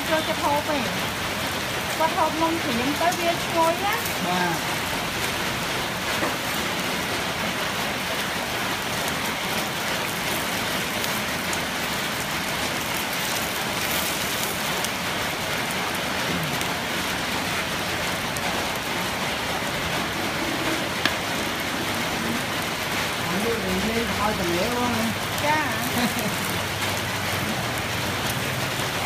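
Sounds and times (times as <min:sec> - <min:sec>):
cakes sizzling in oil: 0:00.0 - 0:29.0.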